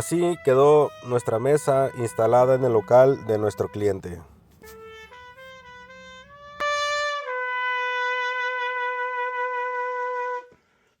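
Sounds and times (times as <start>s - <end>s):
brass-like closing music: 0.0s - 4.0s, 4.6s - 10.5s.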